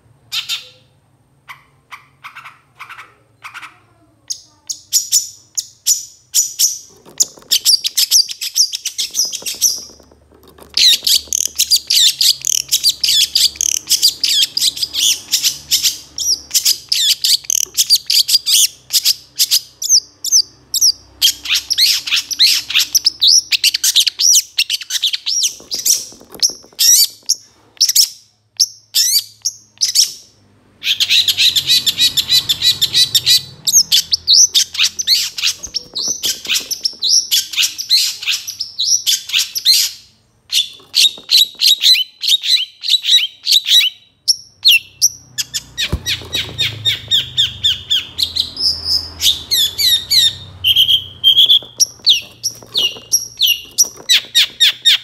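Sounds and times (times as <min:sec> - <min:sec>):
bird chattering song: 0:04.3 - 0:55.0.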